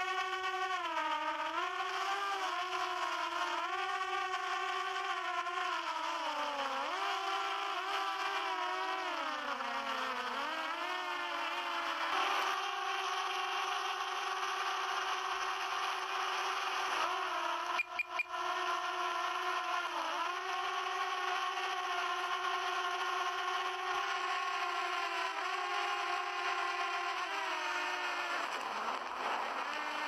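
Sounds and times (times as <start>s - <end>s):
drone propellers whirring: 0.0s - 30.0s.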